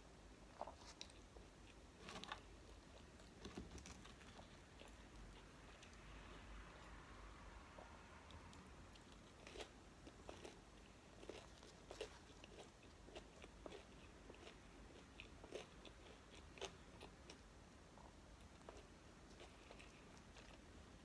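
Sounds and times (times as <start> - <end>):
chewing and crunching food: 0.5 - 6.9, 7.7 - 21.0.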